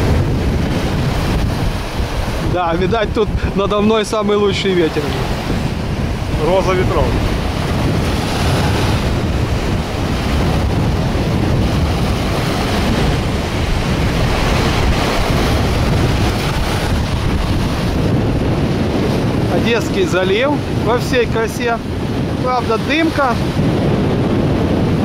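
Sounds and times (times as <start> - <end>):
small waves breaking on shore: 0.0 - 25.0
wind buffeting the microphone: 0.0 - 25.0.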